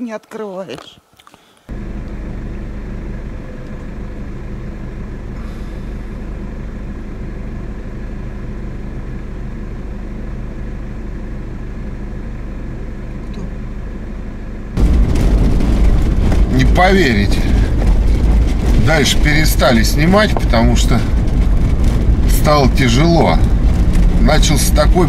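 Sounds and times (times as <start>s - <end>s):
road noise: 0.0s - 10.7s, 14.7s - 25.0s
car engine drone: 1.7s - 25.0s.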